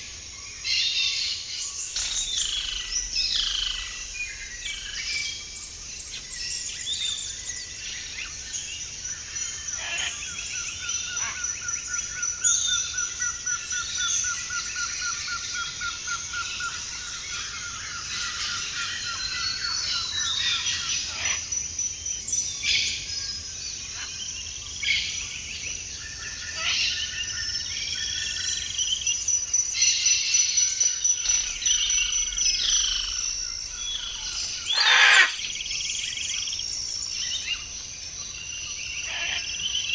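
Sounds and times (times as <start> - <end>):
birds calling and singing: 0.0 - 39.9.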